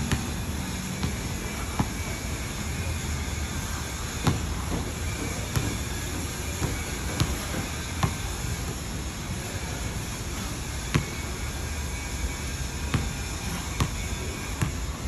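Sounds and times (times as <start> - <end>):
steady outdoor rumble: 0.0 - 15.0.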